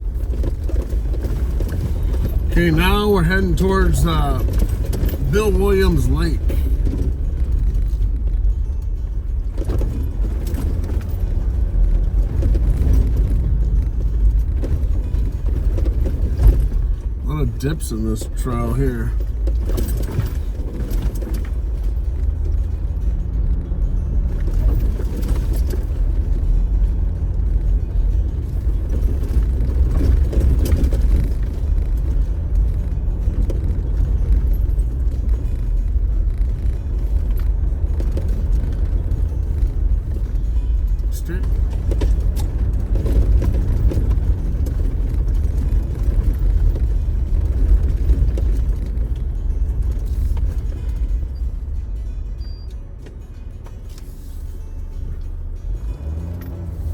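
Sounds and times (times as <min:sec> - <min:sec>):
off-road vehicle rumble: 0:00.0 - 0:56.9.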